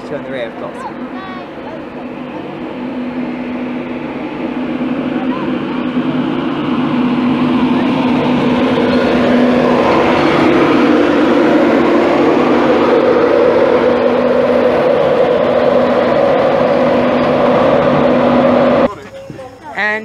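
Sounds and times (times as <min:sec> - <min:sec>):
electric locomotive whirr and hum: 0:00.0 - 0:19.9.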